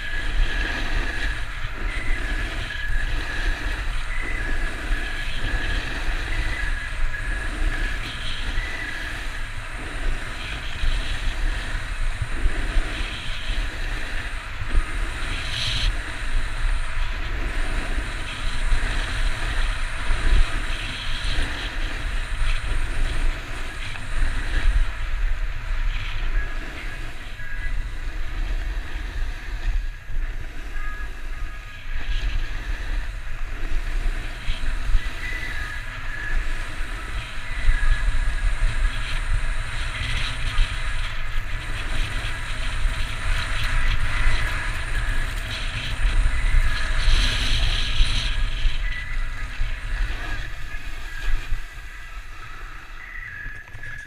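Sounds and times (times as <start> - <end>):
skis scraping over snow: 0.0 - 54.0
wind buffeting microphone: 0.0 - 54.0.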